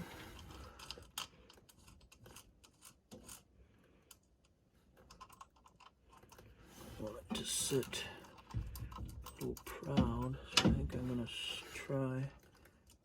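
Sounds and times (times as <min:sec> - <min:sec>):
faint clicks and scrapes: 0:00.0 - 0:13.0.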